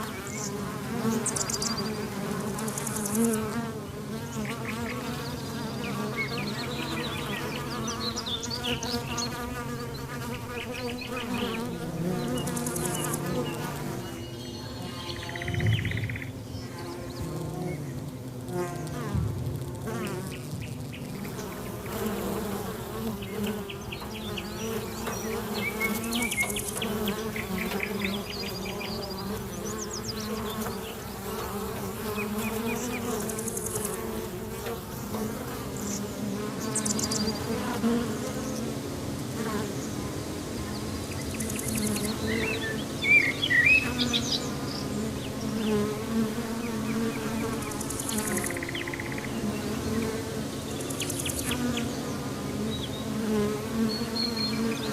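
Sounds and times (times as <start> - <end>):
flying insects buzzing: 0.0 - 54.9.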